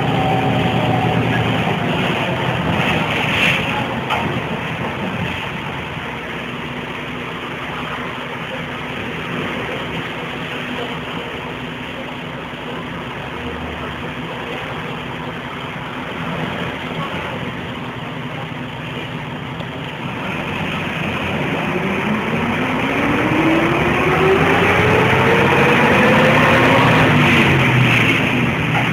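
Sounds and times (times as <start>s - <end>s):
bus diesel engine idling: 0.0s - 28.9s
bus engine revving with rising whine: 0.0s - 28.9s.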